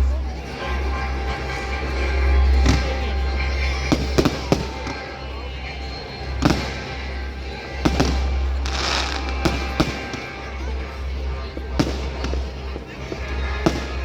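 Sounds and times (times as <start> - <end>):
fireworks exploding: 0.2 - 14.0.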